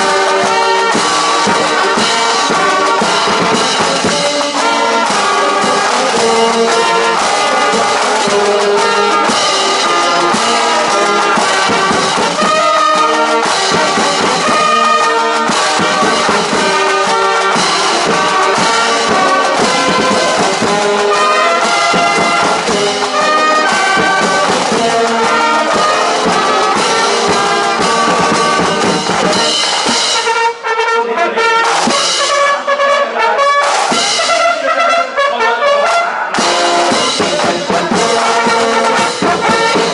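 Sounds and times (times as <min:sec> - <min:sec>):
brass marching band playing: 0:00.0 - 0:39.9.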